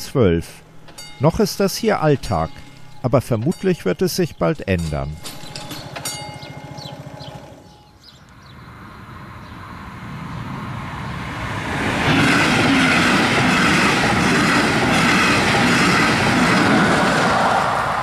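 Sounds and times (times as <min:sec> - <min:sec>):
passenger train passing: 0:00.0 - 0:18.0.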